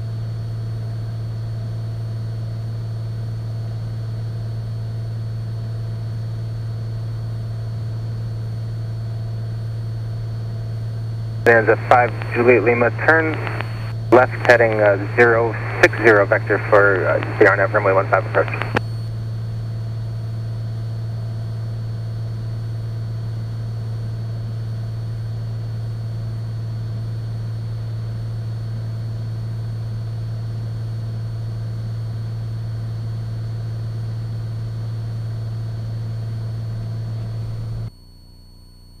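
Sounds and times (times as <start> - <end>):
airplane engine drone in cabin: 0.0 - 37.9.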